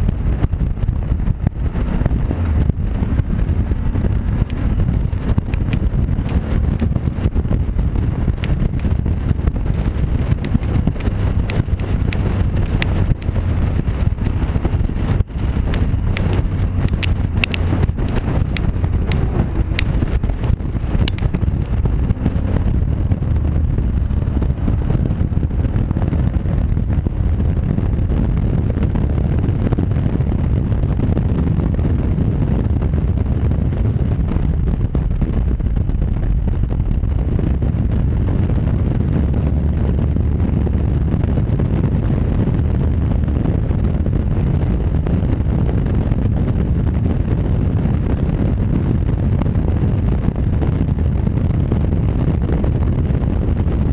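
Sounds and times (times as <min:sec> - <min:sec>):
motorcycle engine drone: 0:00.0 - 0:53.9
wind rushing over microphone: 0:00.0 - 0:53.9.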